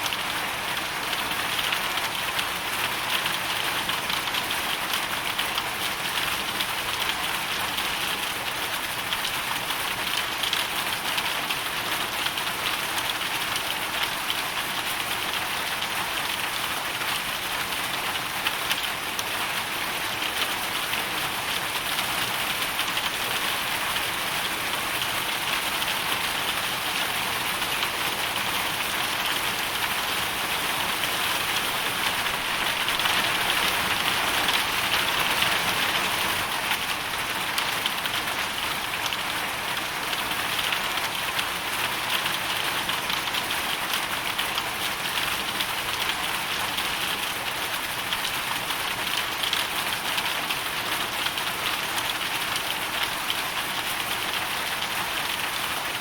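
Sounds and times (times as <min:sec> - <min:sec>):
hail and rain falling: 0:00.0 - 0:56.0.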